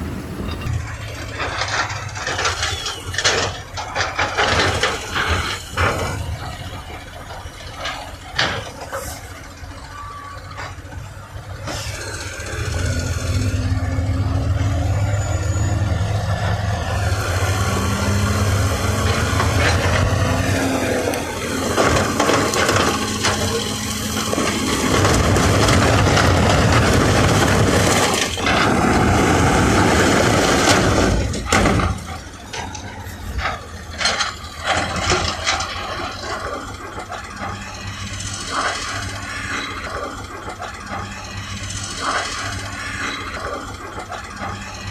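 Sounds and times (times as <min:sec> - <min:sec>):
heavy machinery diesel engine: 0:00.0 - 0:44.9.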